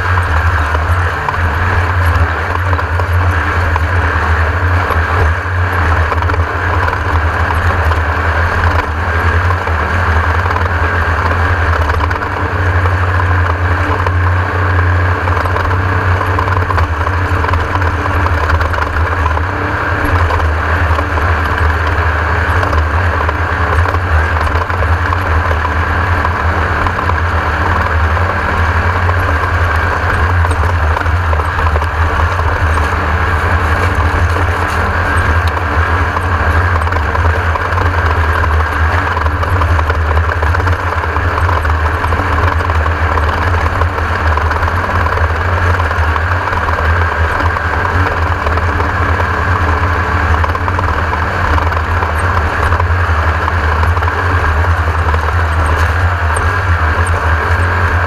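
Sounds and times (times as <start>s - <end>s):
race car engine running: 0.0s - 58.0s
rattling noise: 0.0s - 58.0s.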